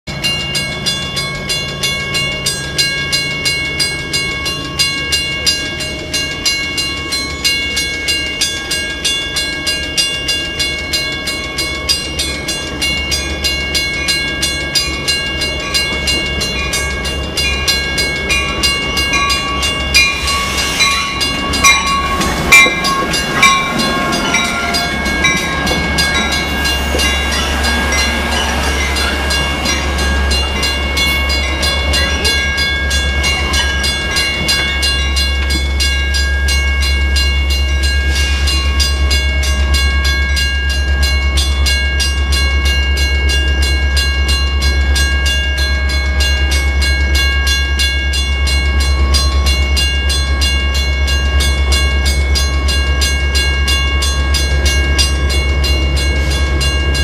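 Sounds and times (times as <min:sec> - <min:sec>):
crossing bell ringing: 0:00.1 - 0:57.0
train rumbling: 0:00.1 - 0:57.0.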